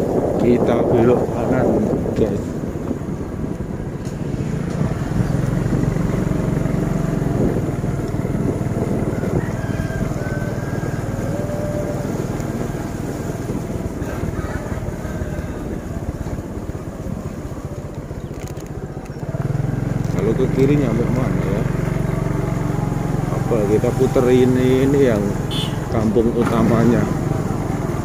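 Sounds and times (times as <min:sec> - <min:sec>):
road rumble: 0:00.0 - 0:28.0
wind on microphone: 0:00.0 - 0:28.0
small motorcycle engine running: 0:02.8 - 0:28.0.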